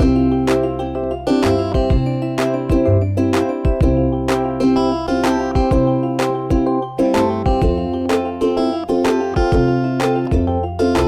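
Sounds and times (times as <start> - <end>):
guitar and bass music with beat: 0.0 - 11.0.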